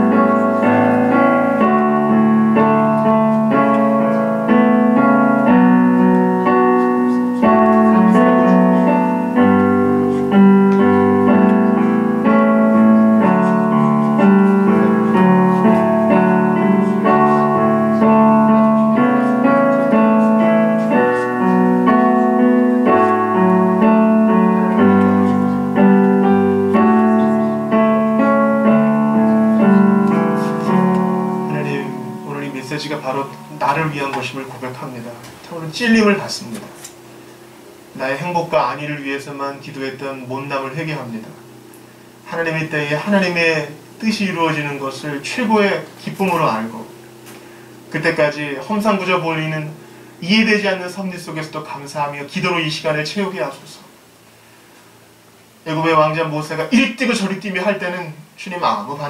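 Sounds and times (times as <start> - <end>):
digital piano chords and melody: 0.0 - 54.2.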